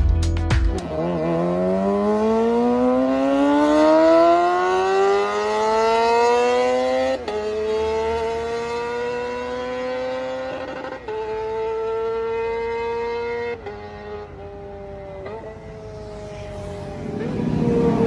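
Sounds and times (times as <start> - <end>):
motorcycle accelerating hard: 0.7 - 18.0.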